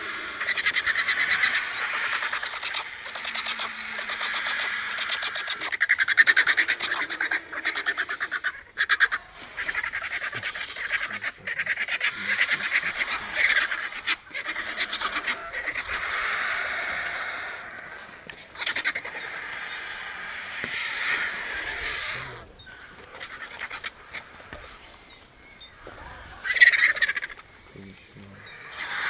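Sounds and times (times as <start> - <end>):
vulture chattering calls: 0.0 - 29.0.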